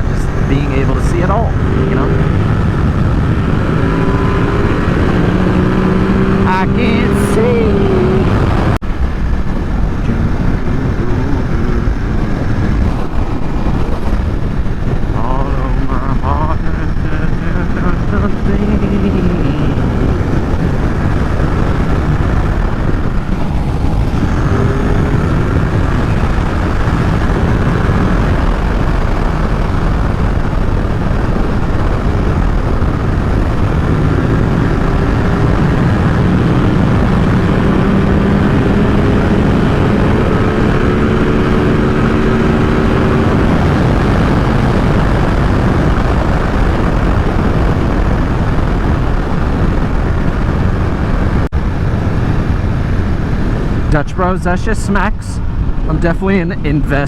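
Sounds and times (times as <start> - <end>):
motorcycle engine running: 0.0 - 53.9
wind rush on microphone: 0.0 - 57.0.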